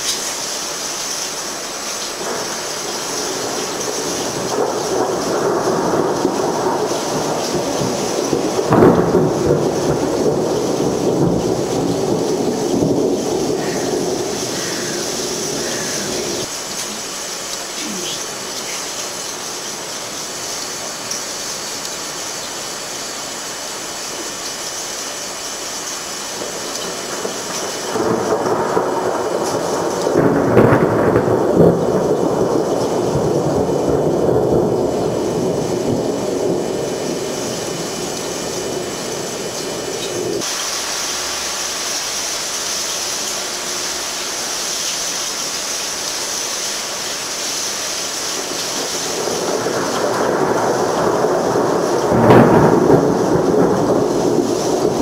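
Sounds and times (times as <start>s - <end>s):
heavy rain: 0.0s - 55.0s
rolling thunder: 1.5s - 22.4s, 26.0s - 42.2s, 46.8s - 55.0s.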